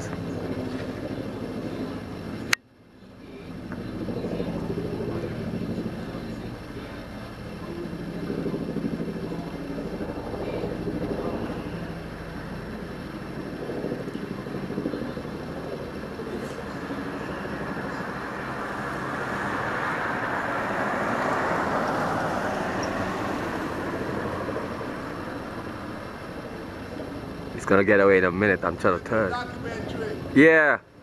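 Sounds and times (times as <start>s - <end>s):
helicopter rotor and engine: 0.0s - 31.0s.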